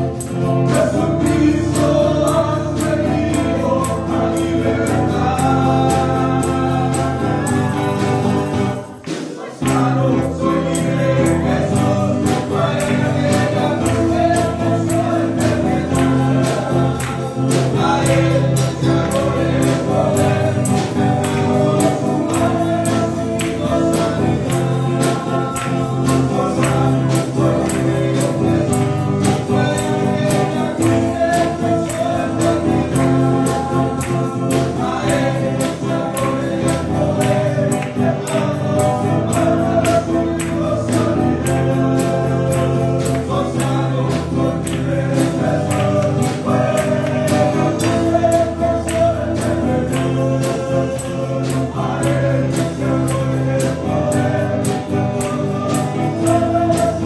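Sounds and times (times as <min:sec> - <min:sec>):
choir voices: 0:00.0 - 0:57.0
man singing into a microphone: 0:00.0 - 0:57.0
tambourine-like beat: 0:00.0 - 0:57.0.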